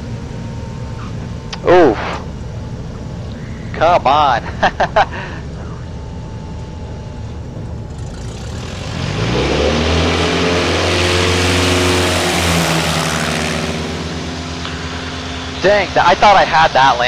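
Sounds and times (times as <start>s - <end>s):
propeller plane engine revving: 0.0s - 17.0s.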